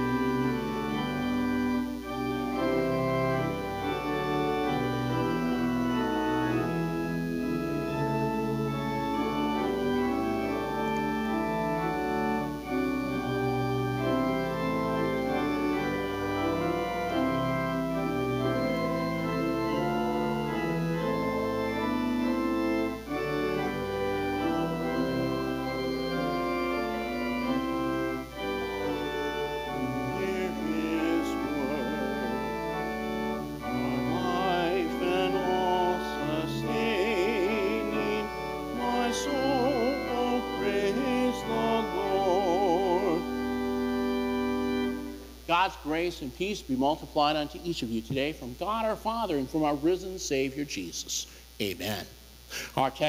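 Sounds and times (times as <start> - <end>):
organ playing a hymn: 0.0 - 53.0.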